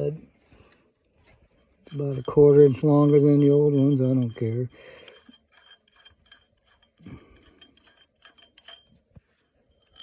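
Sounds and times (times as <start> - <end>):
small metal parts clinking: 1.8 - 10.0.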